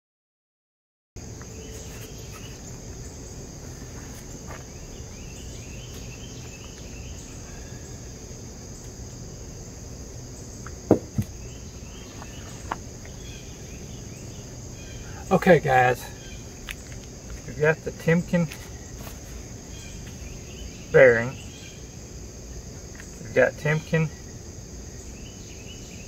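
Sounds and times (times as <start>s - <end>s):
insects droning: 1.2s - 26.0s.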